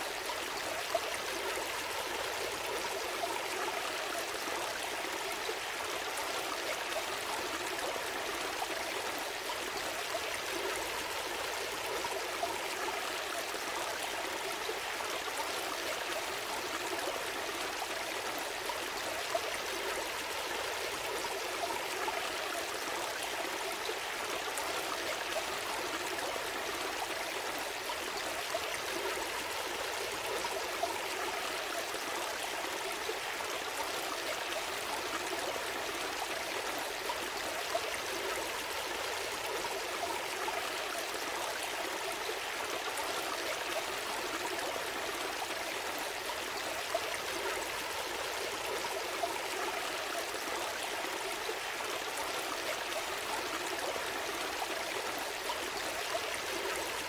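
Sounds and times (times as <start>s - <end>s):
stream babbling: 0.0s - 57.0s
water splashes and trickles: 0.0s - 57.0s.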